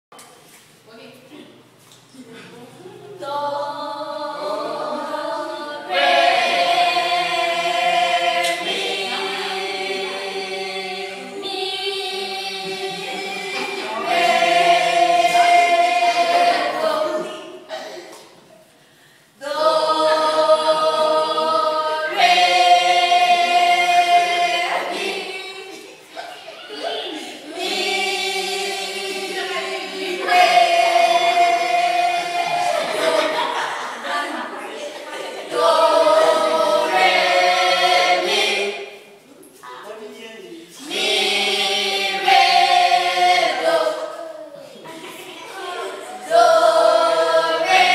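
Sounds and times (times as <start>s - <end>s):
group of young voices singing: 2.4s - 39.6s, 40.6s - 47.9s.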